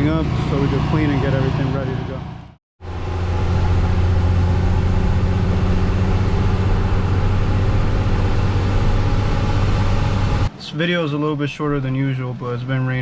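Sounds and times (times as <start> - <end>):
heavy engine droning: 0.0 - 10.5.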